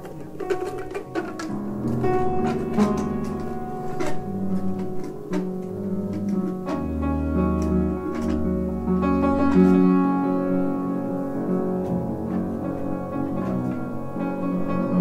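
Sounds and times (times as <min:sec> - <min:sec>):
free jazz piano: 0:00.0 - 0:15.0.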